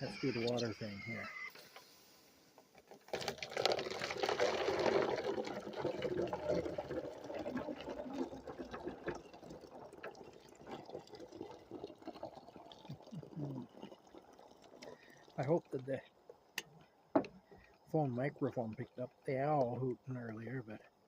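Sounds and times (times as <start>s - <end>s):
water pouring into container: 3.0s - 16.5s, 17.4s - 20.8s.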